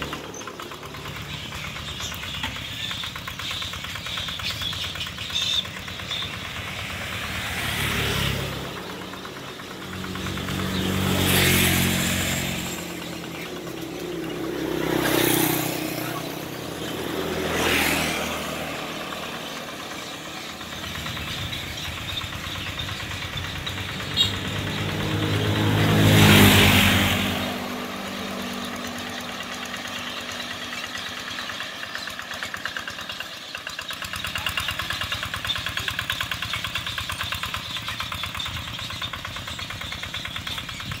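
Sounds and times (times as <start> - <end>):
motor vehicles passing: 0.0 - 41.0
small engine running: 0.0 - 41.0.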